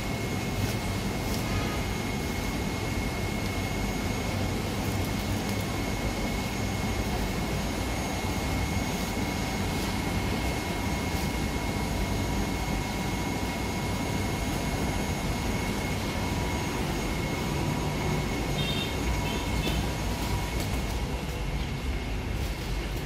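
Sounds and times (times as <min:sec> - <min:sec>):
machine drone with high whine: 0:00.0 - 0:23.0.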